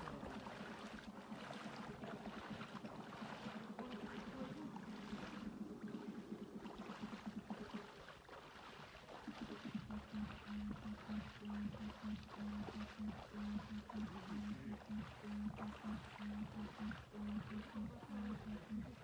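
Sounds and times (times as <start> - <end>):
floodwater flowing: 0.0 - 19.0
low steady hum: 0.0 - 19.0.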